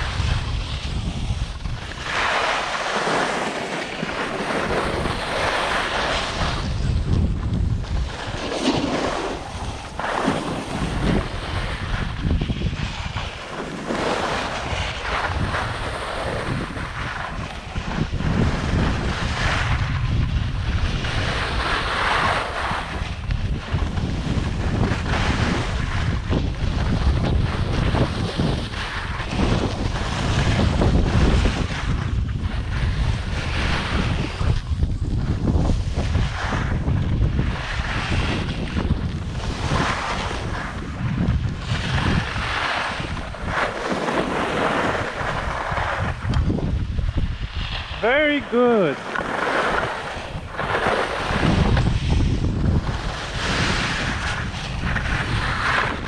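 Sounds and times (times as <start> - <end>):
skis swishing on snow: 0.0 - 56.0
wind buffeting microphone: 0.0 - 56.0.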